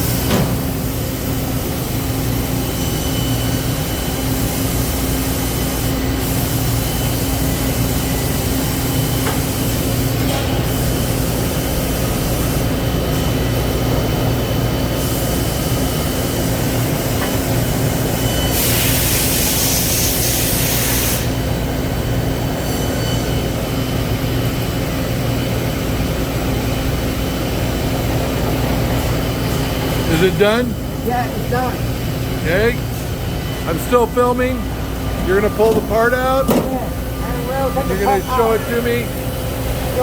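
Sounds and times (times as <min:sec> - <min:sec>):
lathe machine hum: 0:00.0 - 0:40.0.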